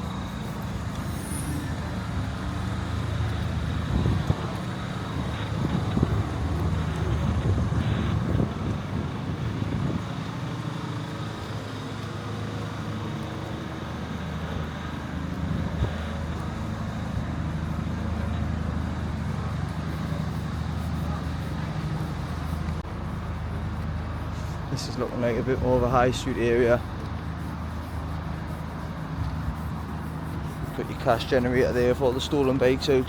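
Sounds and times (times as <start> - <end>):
street traffic: 0.0 - 33.0
vehicle engine running nearby: 0.0 - 33.0.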